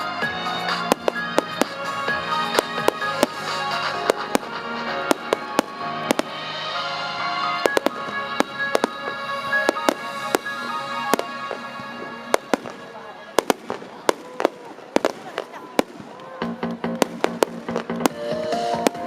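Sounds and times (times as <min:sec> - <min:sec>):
music: 0:00.0 - 0:13.8, 0:15.8 - 0:19.0
fireworks bursting: 0:00.0 - 0:19.0.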